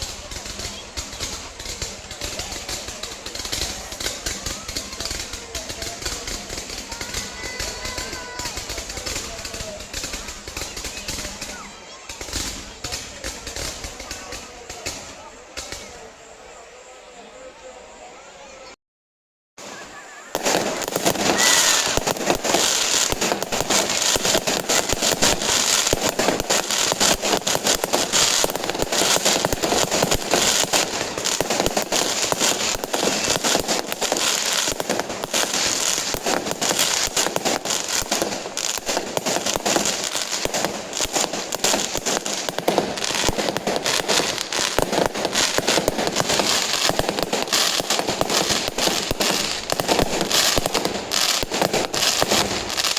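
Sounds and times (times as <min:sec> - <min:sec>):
fireworks crackling: 0:00.0 - 0:17.8, 0:19.6 - 0:52.9.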